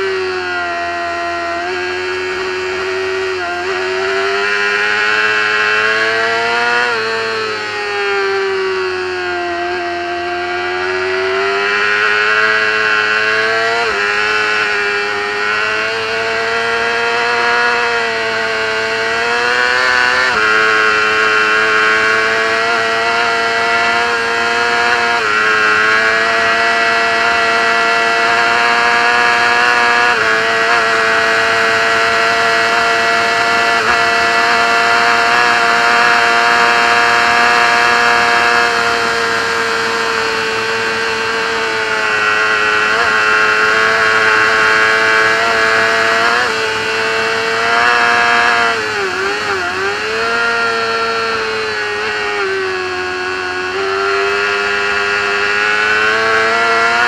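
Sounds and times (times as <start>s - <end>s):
racing motorcycle engine accelerating: 0.0s - 57.0s.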